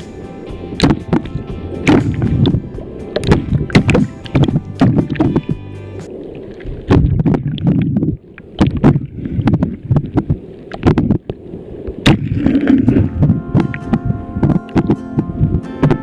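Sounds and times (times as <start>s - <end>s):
waves sloshing and splashing: 0.0s - 16.0s.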